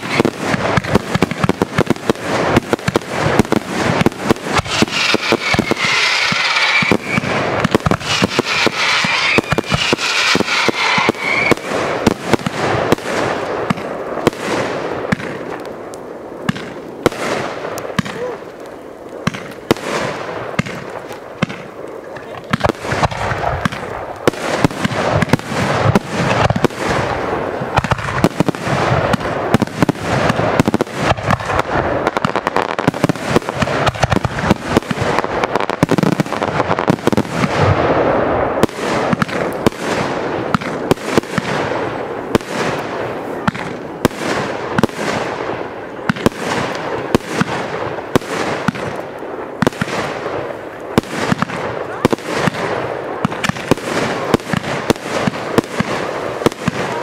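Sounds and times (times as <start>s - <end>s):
firework crackling: 0.0s - 57.0s.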